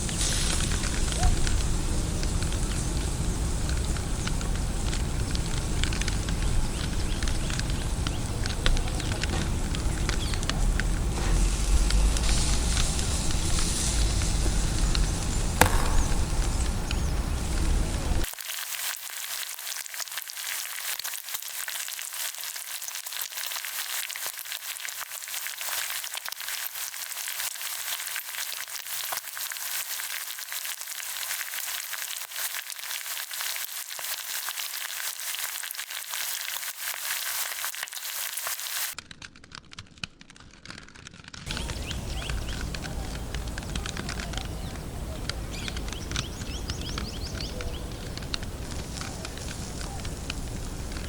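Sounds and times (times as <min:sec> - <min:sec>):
food sizzling on a barbecue: 0:00.0 - 0:16.2, 0:17.0 - 0:39.0, 0:41.5 - 0:51.0.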